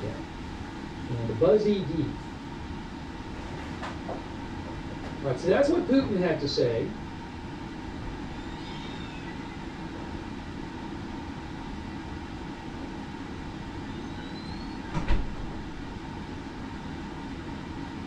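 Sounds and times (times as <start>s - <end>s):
low rumbling noise: 0.0s - 18.0s.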